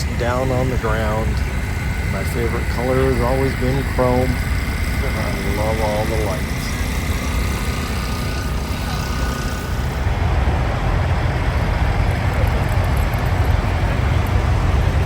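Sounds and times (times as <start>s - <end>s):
diesel truck engines idling: 0.0s - 15.0s.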